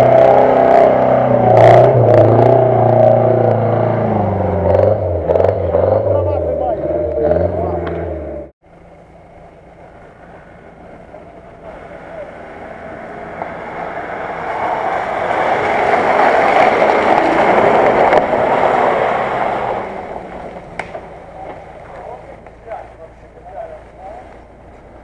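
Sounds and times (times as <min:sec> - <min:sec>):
vehicle engine passing by: 0:00.0 - 0:08.5, 0:09.2 - 0:25.0
tyres driving through mud: 0:00.0 - 0:25.0.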